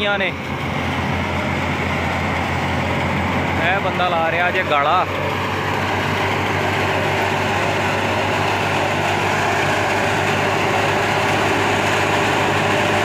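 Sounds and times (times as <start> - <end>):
thresher machine drone: 0.0 - 13.0.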